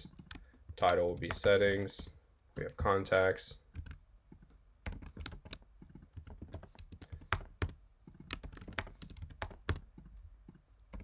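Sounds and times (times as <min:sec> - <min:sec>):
computer keyboard typing: 0:00.0 - 0:02.7, 0:03.7 - 0:11.0.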